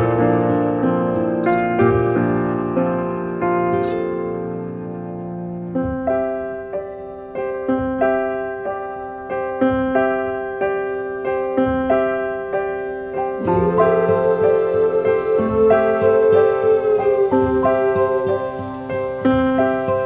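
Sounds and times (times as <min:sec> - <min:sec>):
piano notes repeating: 0:00.0 - 0:20.0.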